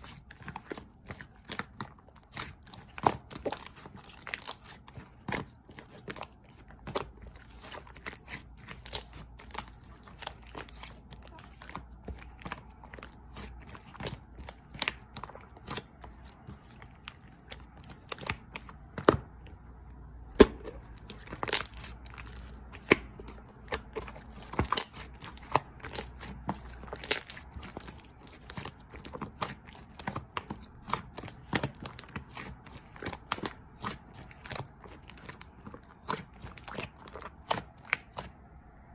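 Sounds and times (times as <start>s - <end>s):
slime squishing with pops and clicks: 0.0s - 38.9s.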